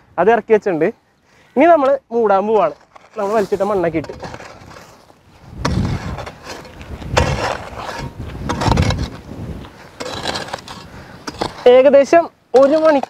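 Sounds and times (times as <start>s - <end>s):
hoe scraping dry earth: 1.6s - 13.0s
soil falling: 1.7s - 13.0s.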